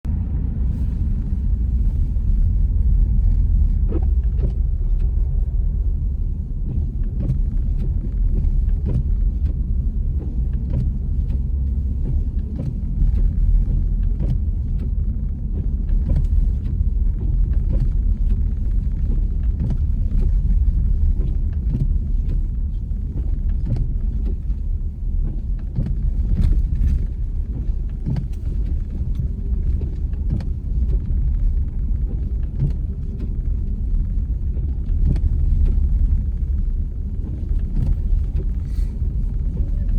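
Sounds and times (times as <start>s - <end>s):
car road rumble: 0.0s - 39.9s.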